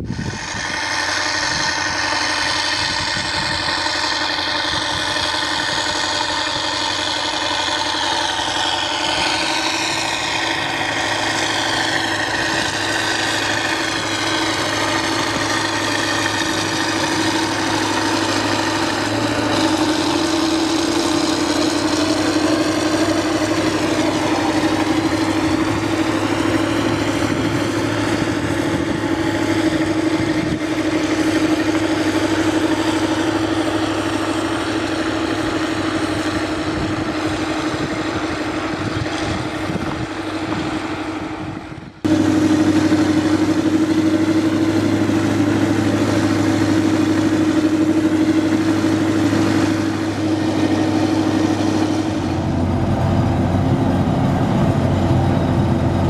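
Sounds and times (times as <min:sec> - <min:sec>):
engine whine: 0:00.0 - 0:56.0
tractor diesel engine droning: 0:00.0 - 0:56.0.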